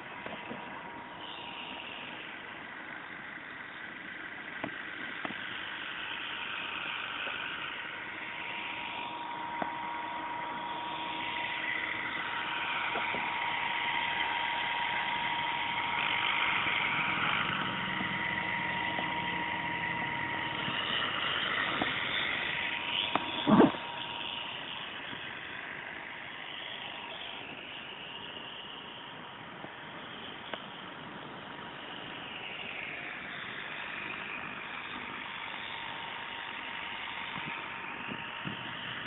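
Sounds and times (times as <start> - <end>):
model helicopter motor whine: 0.0 - 39.0
rotor whooshing: 5.4 - 39.0.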